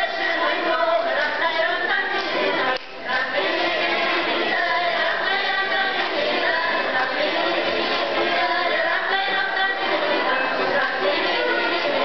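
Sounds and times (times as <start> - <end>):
accordion: 0.0 - 12.0
women singing a folk song: 0.0 - 12.0.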